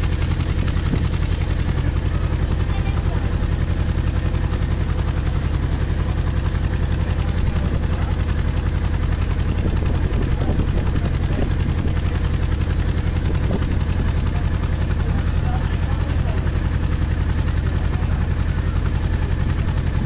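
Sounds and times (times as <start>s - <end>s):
boat engine throbbing: 0.0s - 20.0s.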